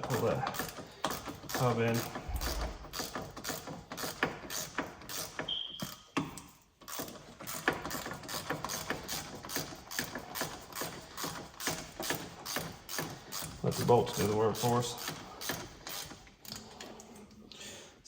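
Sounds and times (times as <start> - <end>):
hand ratchet clicking: 0.0 - 17.1.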